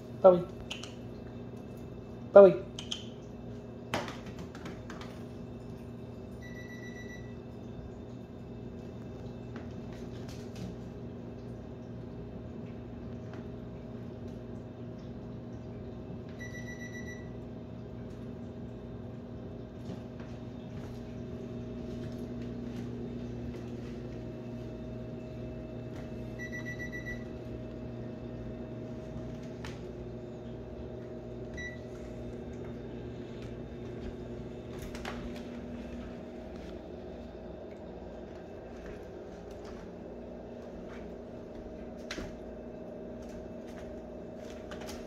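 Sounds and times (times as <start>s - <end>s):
kitchen appliance hum: 0.0s - 45.0s.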